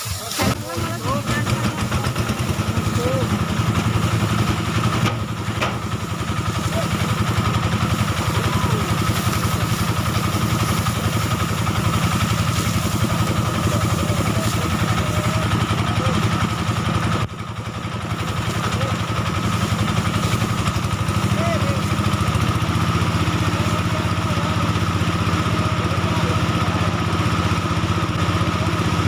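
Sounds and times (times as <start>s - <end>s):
thresher engine running: 0.0s - 29.0s.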